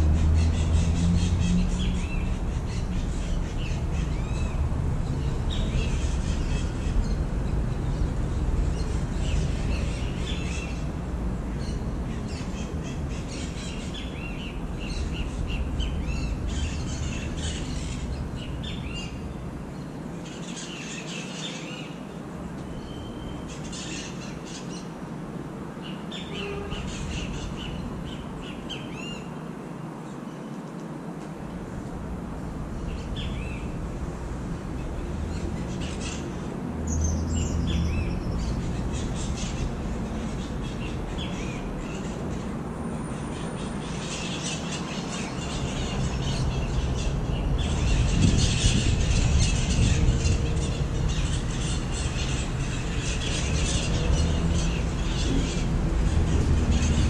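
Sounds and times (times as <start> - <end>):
wild birds chirping: 0.0 - 31.0, 31.6 - 57.0.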